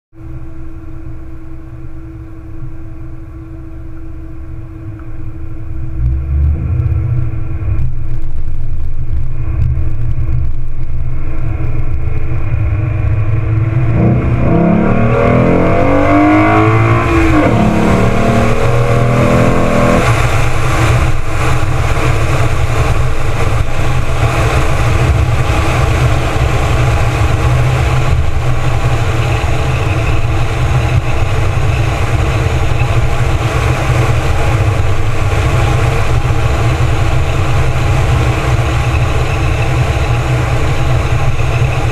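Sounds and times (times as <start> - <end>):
wind and road noise: 0.1 - 41.9
car engine accelerating: 0.2 - 41.9.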